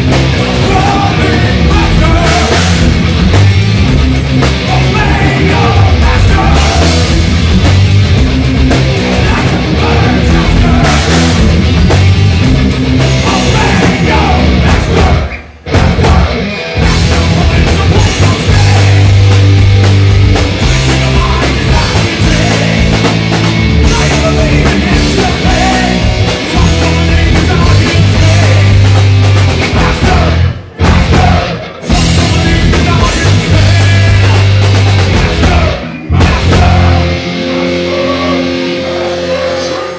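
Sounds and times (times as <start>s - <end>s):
drum kit: 0.0s - 39.9s
electric guitar: 0.0s - 39.9s
heavy metal band playing live: 0.0s - 39.9s.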